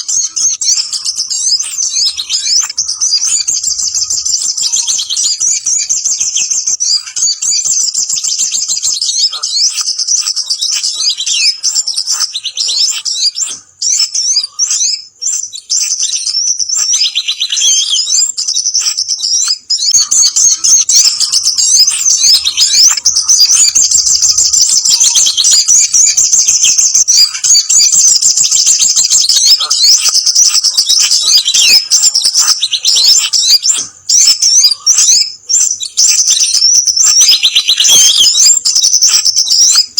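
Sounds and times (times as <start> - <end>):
high-pitched bird chattering: 0.0 - 39.9.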